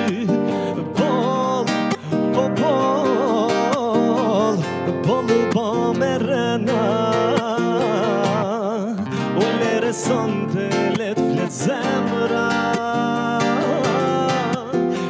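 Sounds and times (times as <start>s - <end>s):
acoustic guitar: 0.0s - 15.0s
man singing with vibrato: 0.0s - 15.0s.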